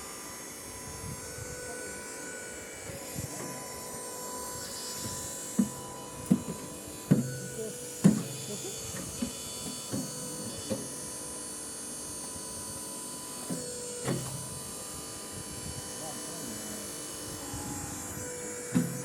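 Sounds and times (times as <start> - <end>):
machine electric hum: 0.0 - 19.0.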